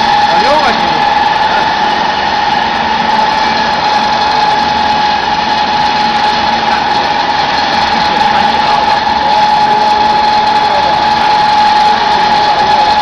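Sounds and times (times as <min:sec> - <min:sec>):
pellet press machine whining: 0:00.0 - 0:13.0.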